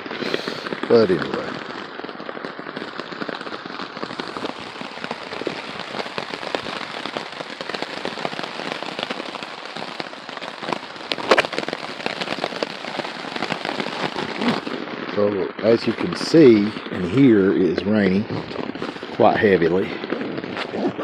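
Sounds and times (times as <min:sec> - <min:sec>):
heavy rain on a tarp: 0:00.0 - 0:21.0.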